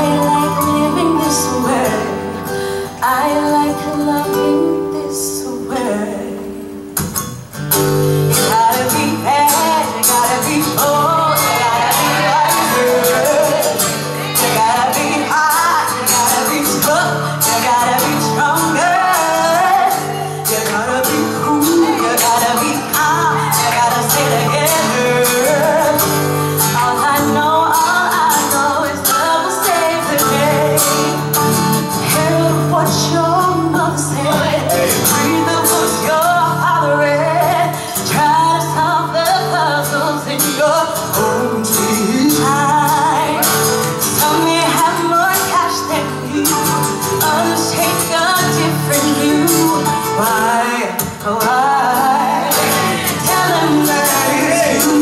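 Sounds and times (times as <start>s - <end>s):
woman and man singing duet: 0.0s - 6.8s, 8.3s - 55.0s
acoustic guitar playing: 0.0s - 55.0s.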